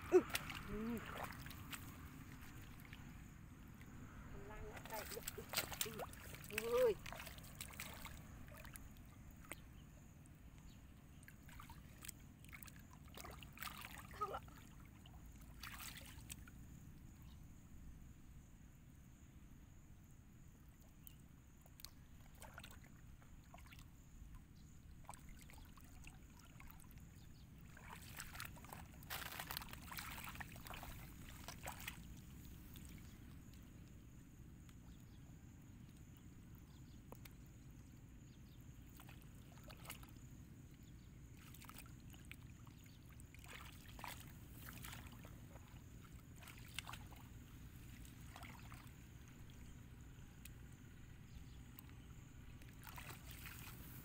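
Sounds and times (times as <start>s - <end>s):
splashing in shallow muddy water: 0.0s - 16.8s, 20.8s - 54.0s.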